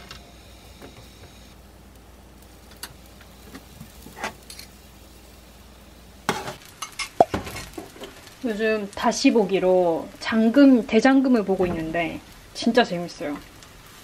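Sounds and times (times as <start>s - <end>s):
food sizzling in oil: 2.1s - 14.0s.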